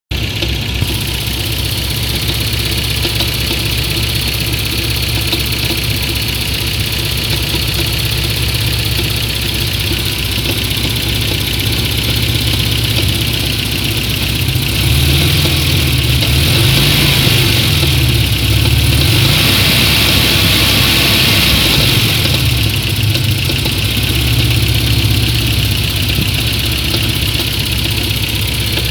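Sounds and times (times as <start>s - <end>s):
car engine idling with knocking: 0.1s - 28.9s.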